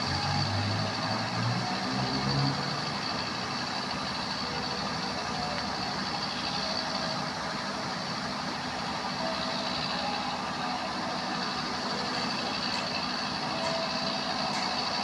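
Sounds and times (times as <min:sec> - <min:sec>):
heavy vehicles running: 0:00.0 - 0:15.0.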